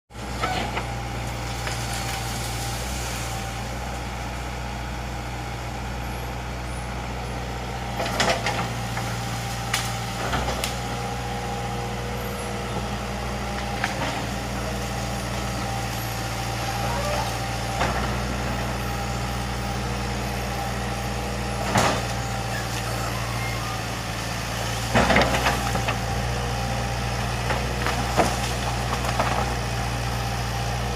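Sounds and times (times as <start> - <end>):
excavator diesel engine running: 0.1 - 30.9.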